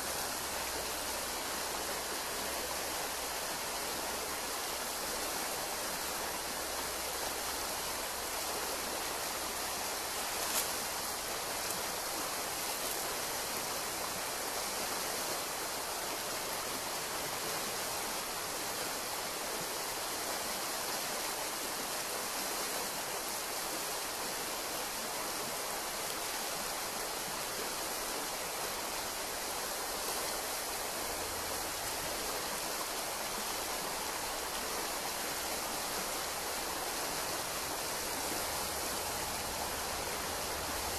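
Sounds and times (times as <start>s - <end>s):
stream rippling over stones: 0.0s - 40.9s.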